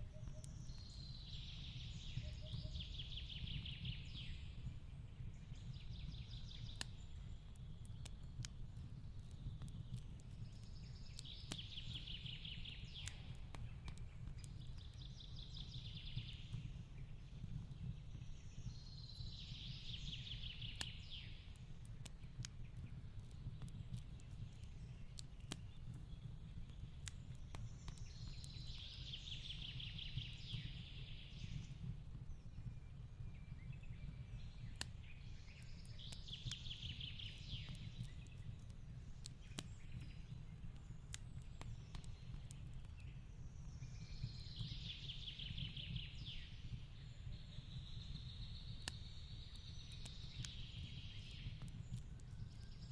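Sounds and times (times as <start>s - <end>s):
fireplace crackling and popping: 0.0s - 52.9s.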